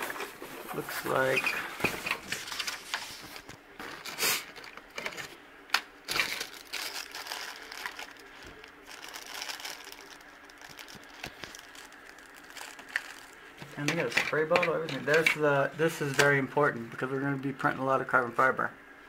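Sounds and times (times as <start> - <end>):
plastic packaging crinkling: 0.0 - 16.6.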